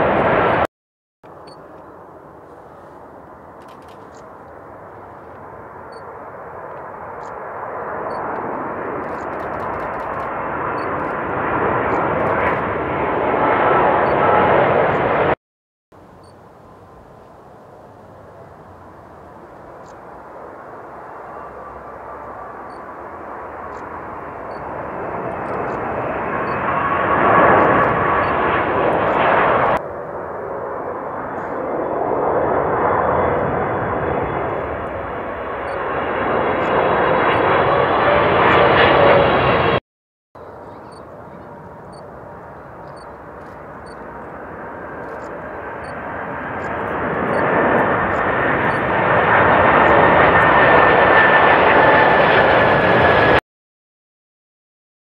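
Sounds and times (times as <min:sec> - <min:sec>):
jet airliner passing overhead: 0:00.0 - 0:00.7, 0:01.3 - 0:15.4, 0:16.0 - 0:39.8, 0:40.4 - 0:53.4.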